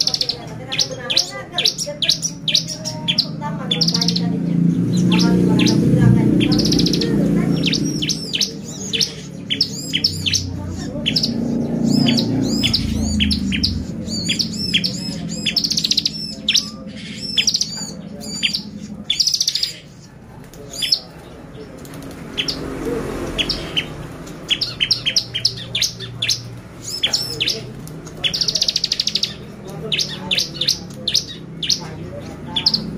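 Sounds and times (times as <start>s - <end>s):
bird chattering song: 0.0s - 32.9s.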